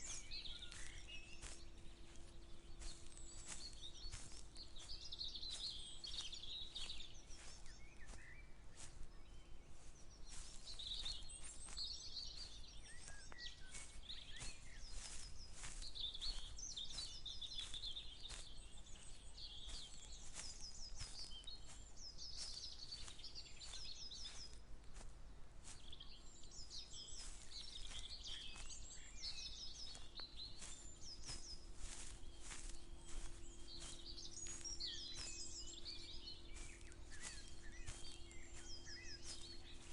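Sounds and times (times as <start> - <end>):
footsteps: 0.0 - 8.2, 9.7 - 25.8, 26.7 - 39.9
songbirds chirping and singing: 0.0 - 39.9.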